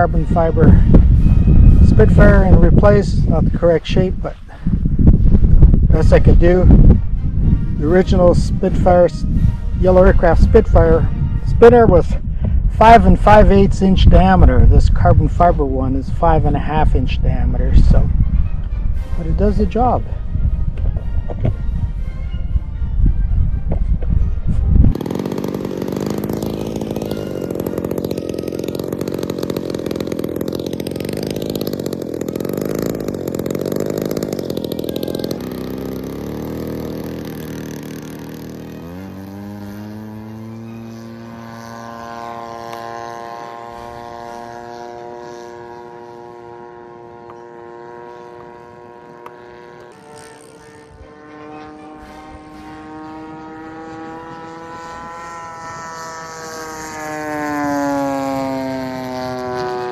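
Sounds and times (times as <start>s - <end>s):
model plane engine droning: 0.0s - 59.9s.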